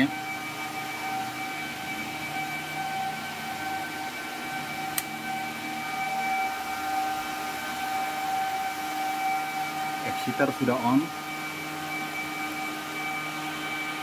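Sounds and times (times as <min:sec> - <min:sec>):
power amplifier whine and hiss: 0:00.0 - 0:14.0.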